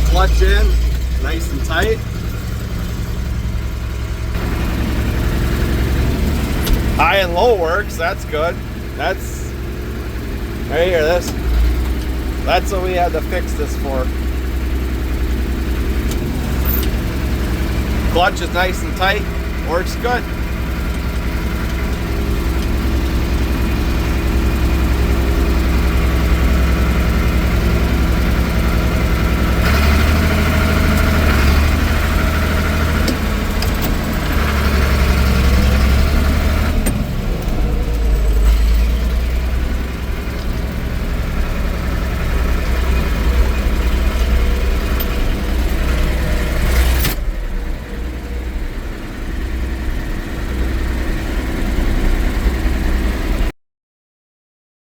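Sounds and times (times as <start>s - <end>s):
tractor diesel engine running: 0.0s - 53.5s.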